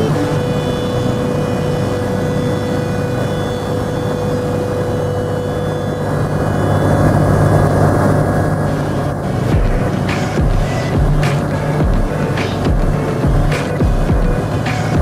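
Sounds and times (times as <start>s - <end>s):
light aircraft engine and propeller: 0.0s - 15.0s.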